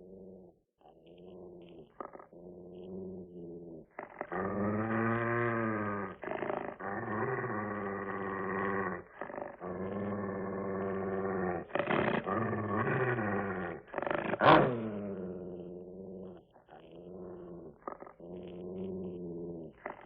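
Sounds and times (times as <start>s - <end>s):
dog growling: 0.0s - 20.0s
dog snarling: 1.2s - 20.0s.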